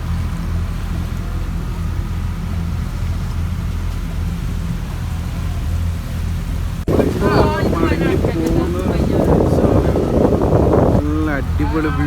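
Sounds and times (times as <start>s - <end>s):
boat engine low pulsing hum: 0.0s - 12.0s
water wash: 0.0s - 12.0s
wind noise: 0.0s - 12.0s.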